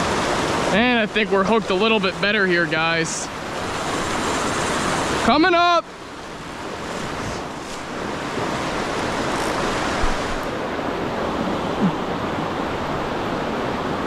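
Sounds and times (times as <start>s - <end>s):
river current rushing: 0.0s - 14.0s.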